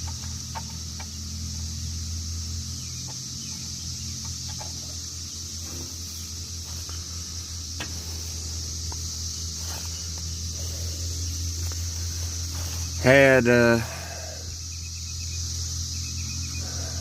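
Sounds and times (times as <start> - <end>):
high-pitched hiss: 0.0 - 17.0
low hum: 0.0 - 17.0.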